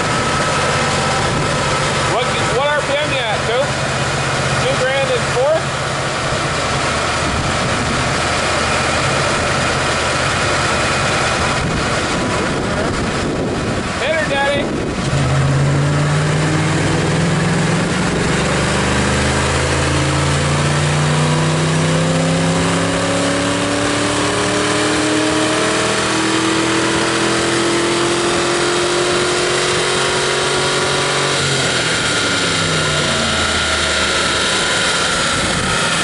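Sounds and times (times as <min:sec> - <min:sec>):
car engine revving on dyno rollers: 0:00.0 - 0:36.0.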